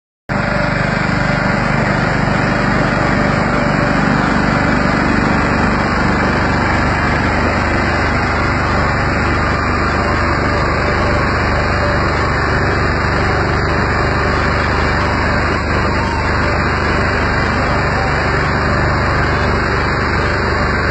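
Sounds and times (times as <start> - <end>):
combine harvester droning: 0.3 - 20.9.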